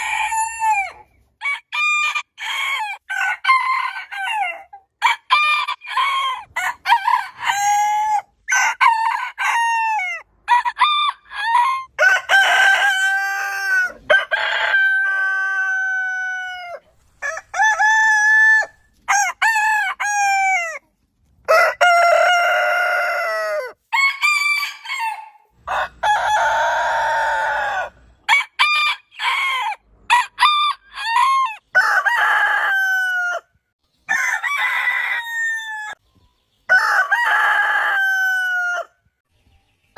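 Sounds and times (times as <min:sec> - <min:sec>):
roosters crowing: 0:00.0 - 0:20.8, 0:21.4 - 0:36.0, 0:36.7 - 0:39.0.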